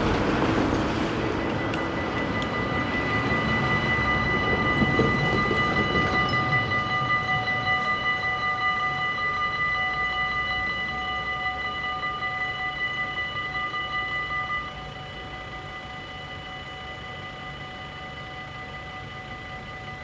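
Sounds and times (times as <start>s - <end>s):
level-crossing bell ringing: 0.0s - 20.0s
passing train rumble: 0.0s - 20.0s.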